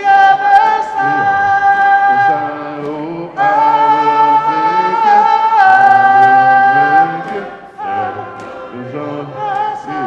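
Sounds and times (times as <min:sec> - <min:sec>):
congregation singing a cappella: 0:00.0 - 0:10.0.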